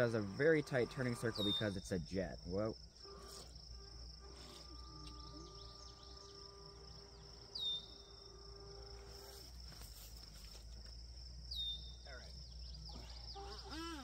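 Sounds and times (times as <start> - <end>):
crickets chirring: 0.0 - 14.0
faint electric motor hum: 0.0 - 14.0.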